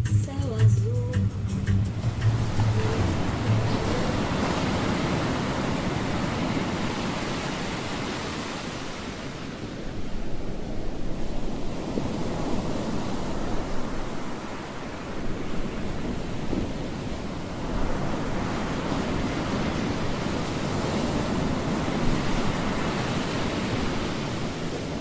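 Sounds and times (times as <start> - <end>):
water rushing past boat: 1.4 - 25.0
wind buffeting microphone: 1.5 - 25.0.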